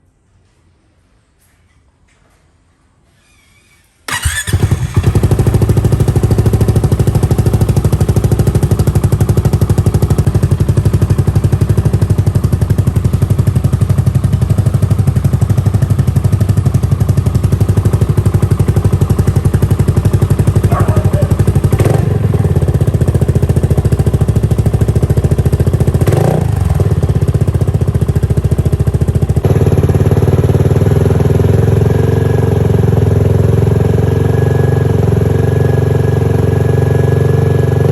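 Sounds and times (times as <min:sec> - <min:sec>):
scooter engine starting and idling: 0:04.1 - 0:37.9.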